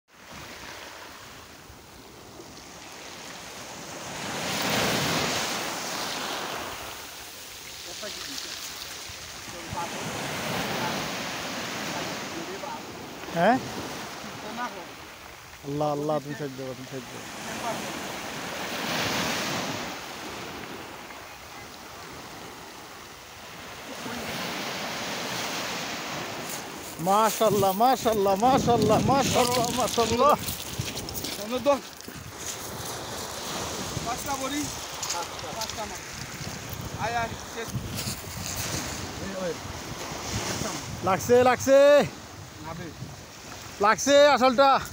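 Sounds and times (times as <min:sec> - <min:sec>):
small waves washing on pebbles: 0:00.2 - 0:44.9.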